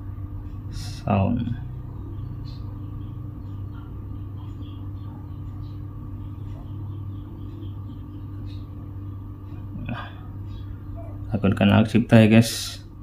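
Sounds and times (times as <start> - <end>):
amplifier mains hum: 0.0 - 13.0.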